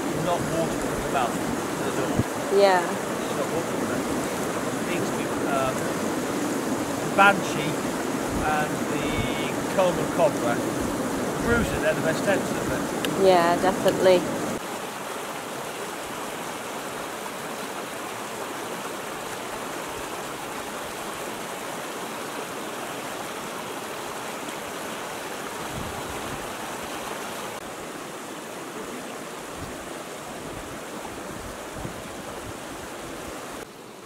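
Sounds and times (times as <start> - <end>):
stream rushing over boulders: 0.0 - 34.0.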